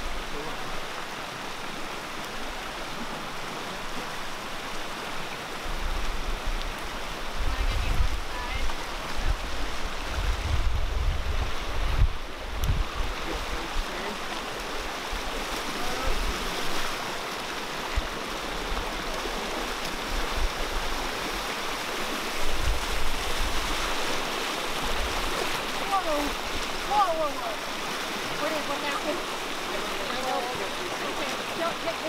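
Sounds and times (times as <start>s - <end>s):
floodwater rushing over gravel: 0.0s - 32.0s.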